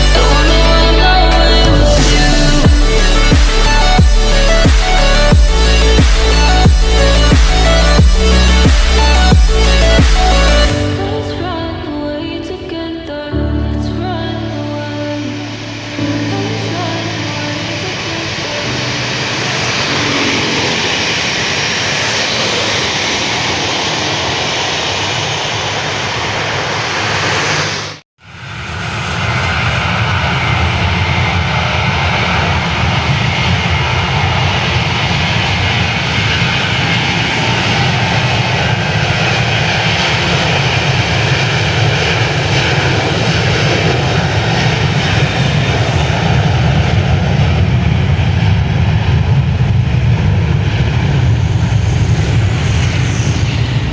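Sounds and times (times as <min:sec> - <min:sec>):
airliner engines running: 0:00.0 - 0:13.3, 0:14.2 - 0:53.9.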